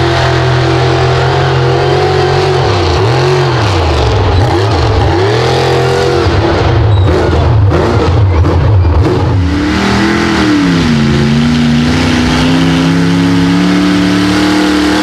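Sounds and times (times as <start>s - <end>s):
tires spinning in mud: 0.0s - 15.0s
truck engine revving: 0.0s - 15.0s.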